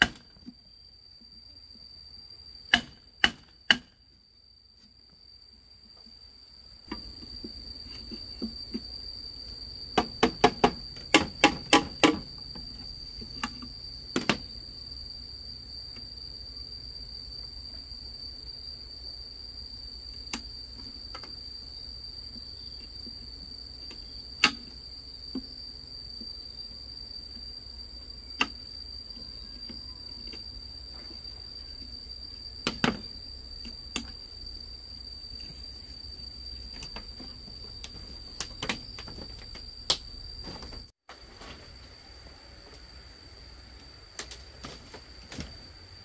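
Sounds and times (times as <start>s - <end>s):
high insect drone: 0.0s - 46.0s.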